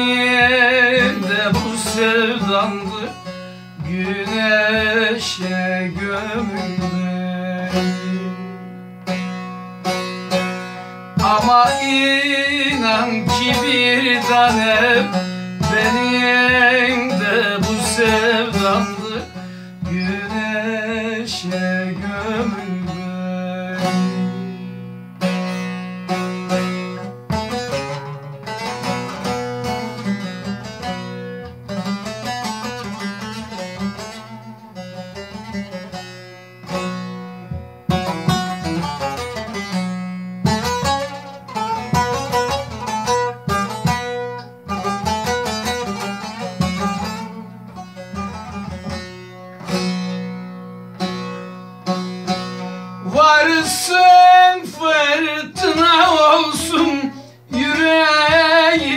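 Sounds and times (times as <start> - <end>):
long-necked lute strummed and plucked: 0.0 - 58.9.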